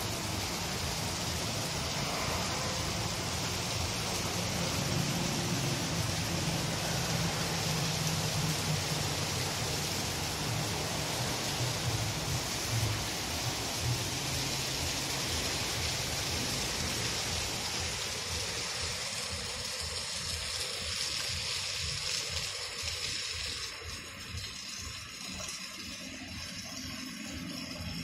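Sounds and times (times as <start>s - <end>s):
heavy rain on pavement: 0.0s - 28.0s.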